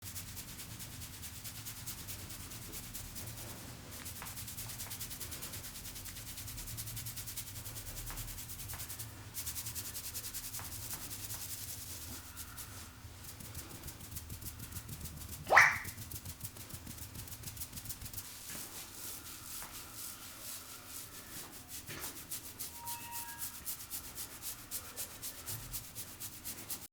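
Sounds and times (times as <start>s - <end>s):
hands rubbing hair: 0.1s - 26.9s.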